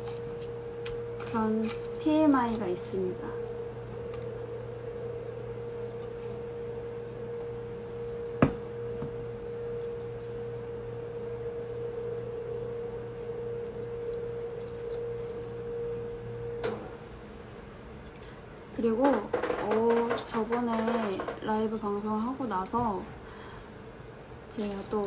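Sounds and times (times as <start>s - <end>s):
steady single-pitched hum: 0.0s - 25.0s.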